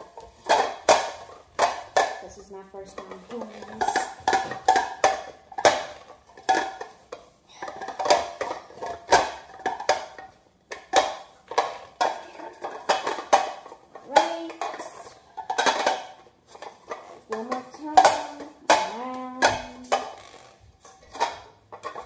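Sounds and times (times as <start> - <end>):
rubbing and scraping cake pan: 0.0 - 22.0.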